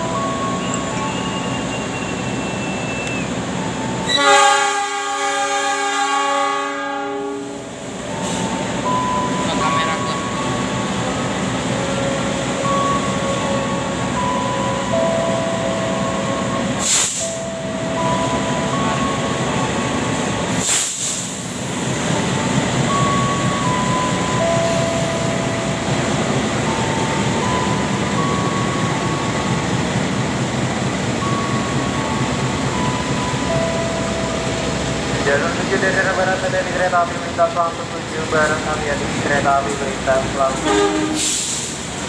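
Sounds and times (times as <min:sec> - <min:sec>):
diesel locomotive engine: 0:00.0 - 0:42.0.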